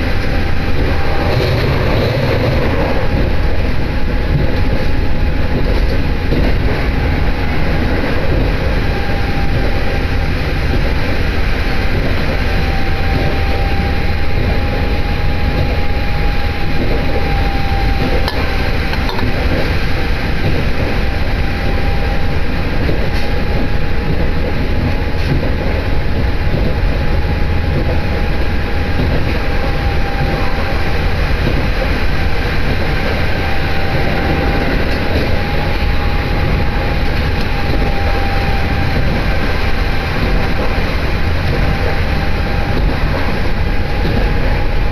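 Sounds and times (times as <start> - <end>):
constant whine: 0.0 - 44.9
train wheels and engine running: 0.0 - 44.9.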